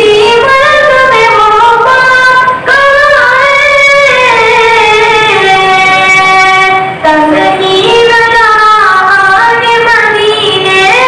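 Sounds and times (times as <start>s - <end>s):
boy singing into microphone: 0.0s - 11.0s.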